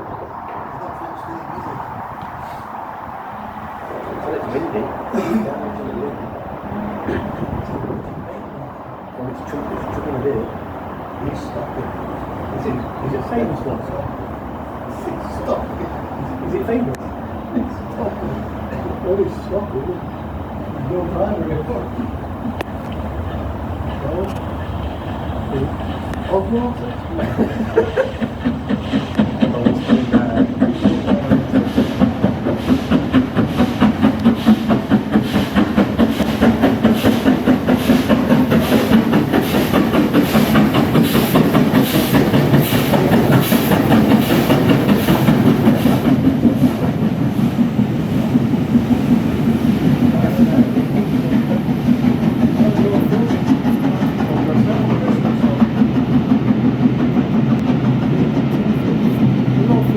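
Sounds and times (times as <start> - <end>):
train clattering on rails: 0.0 - 59.9.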